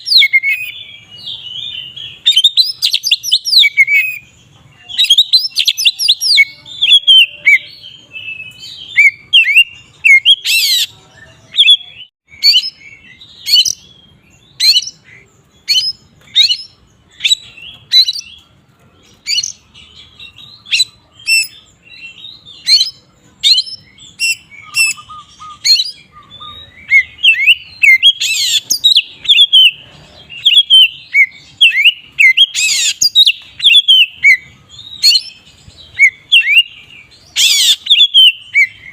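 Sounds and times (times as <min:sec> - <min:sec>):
songbird whistling and warbling: 0:00.0 - 0:38.9.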